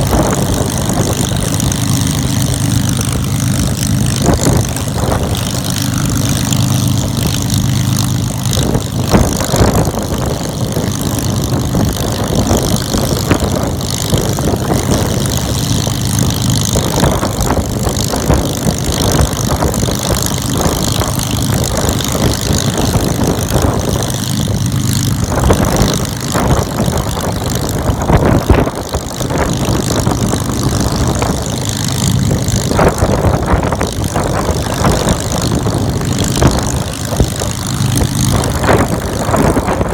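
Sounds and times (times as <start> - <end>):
propeller aircraft engine running: 0.0 - 39.9.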